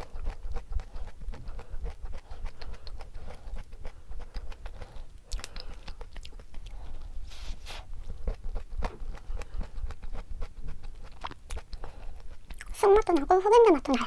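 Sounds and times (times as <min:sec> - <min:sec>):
wet mouth clicks: 0:00.0 - 0:06.9, 0:08.1 - 0:14.0
chewing crunchy cookie: 0:00.0 - 0:14.0.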